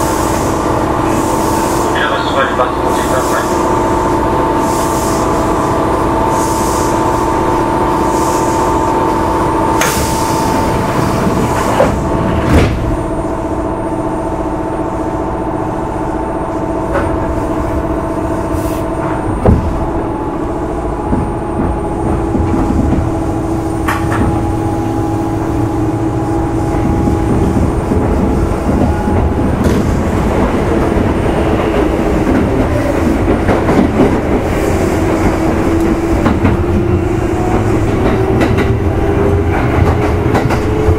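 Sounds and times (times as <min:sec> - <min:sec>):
wheels rumbling on rails: 0:00.0 - 0:40.9.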